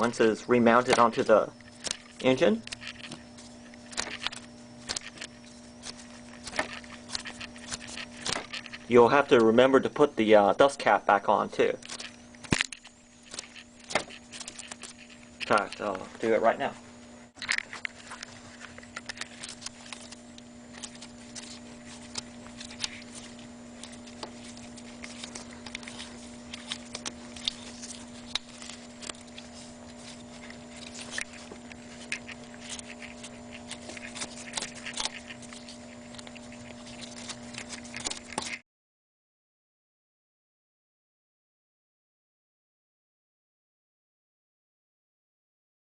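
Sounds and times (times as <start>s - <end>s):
steady hum: 0.0s - 38.6s.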